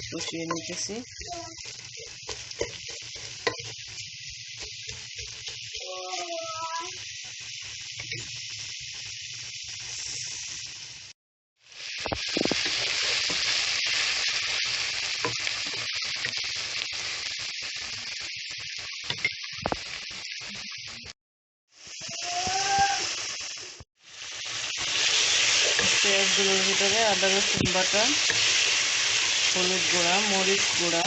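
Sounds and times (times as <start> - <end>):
onions sizzling in hot oil: 0.0 - 31.0.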